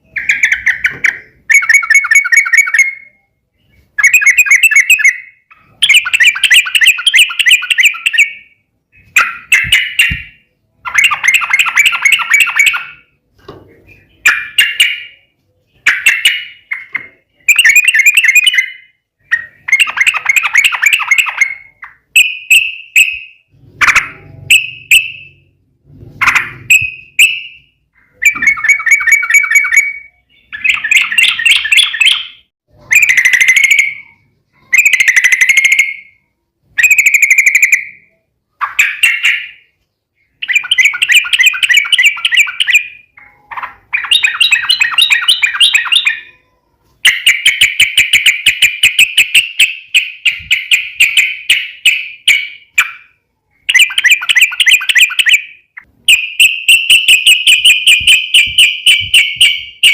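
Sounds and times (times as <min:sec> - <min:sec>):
bird singing bubbly chatter: 0:00.0 - 0:13.2, 0:13.8 - 0:25.5, 0:26.2 - 0:59.9.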